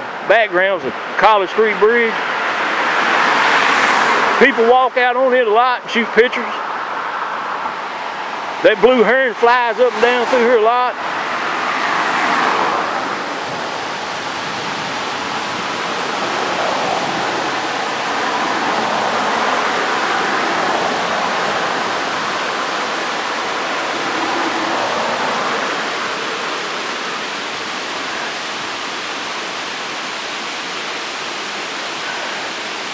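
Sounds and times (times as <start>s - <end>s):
river whitewater rushing: 0.0s - 32.9s
car passing on wet road: 1.1s - 5.5s, 6.5s - 32.9s.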